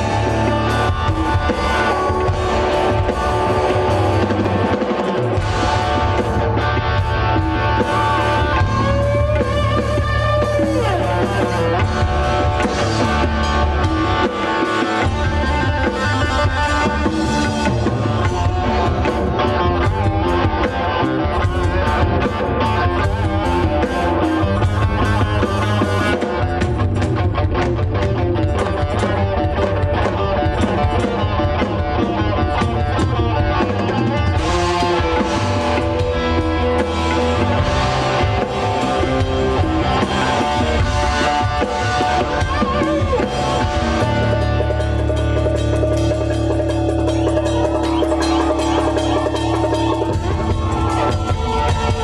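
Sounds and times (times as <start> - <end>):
drum kit: 0.0 - 52.0
electric guitars: 0.0 - 52.0
rock band playing: 0.0 - 52.0.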